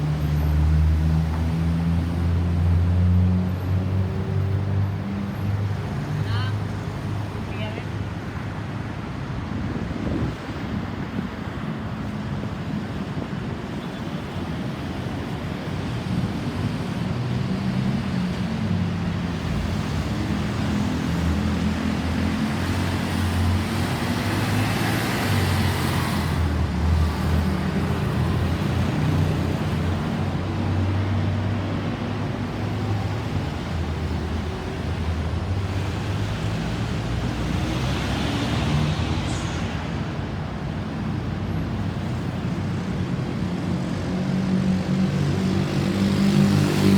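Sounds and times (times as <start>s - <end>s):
vehicle engines rumbling: 0.0s - 46.9s.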